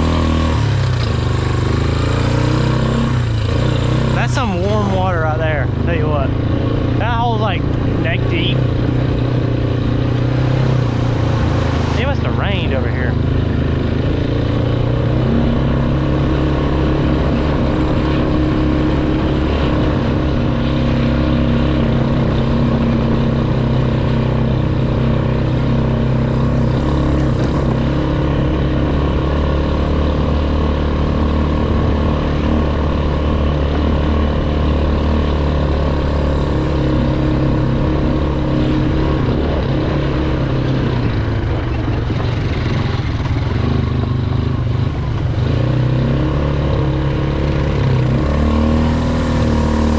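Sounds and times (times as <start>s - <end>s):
outboard boat motor running: 0.0s - 49.9s.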